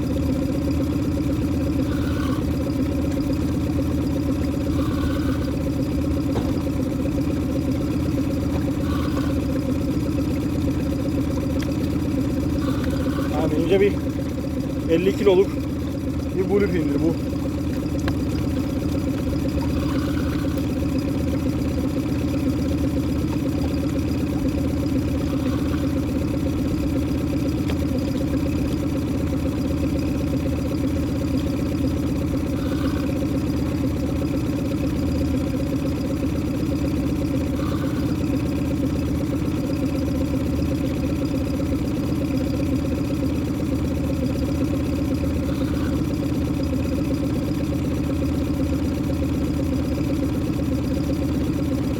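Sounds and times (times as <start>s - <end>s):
boat engine idling: 0.0s - 51.9s.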